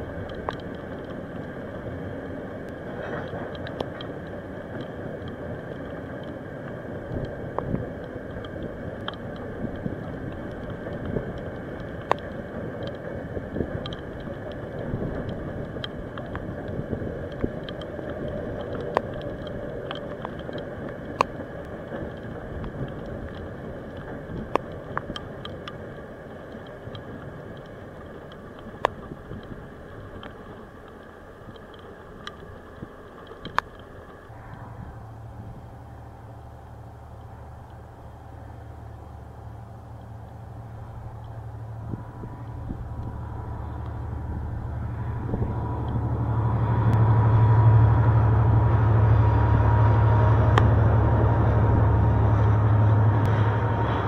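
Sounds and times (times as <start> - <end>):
freight train rumble: 0.0 - 54.0.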